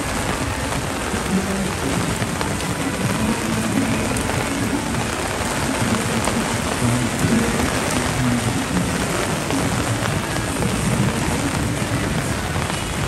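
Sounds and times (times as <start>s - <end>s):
heavy rain hissing: 0.0s - 13.0s
low drumming of rain: 0.0s - 13.0s.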